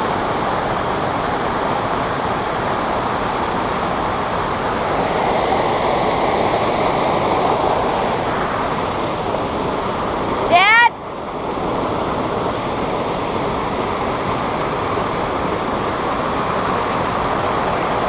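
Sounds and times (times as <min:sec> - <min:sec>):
creek rushing over a riffle: 0:00.0 - 0:18.0.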